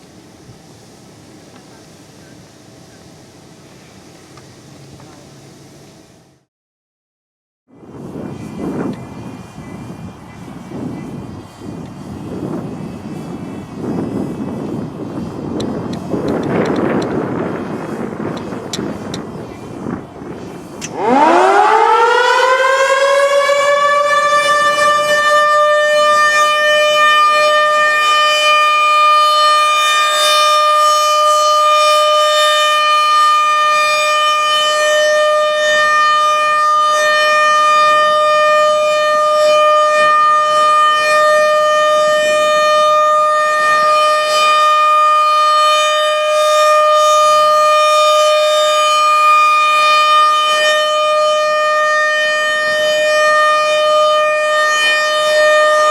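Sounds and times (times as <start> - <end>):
outdoor warning siren: 7.7 - 55.9.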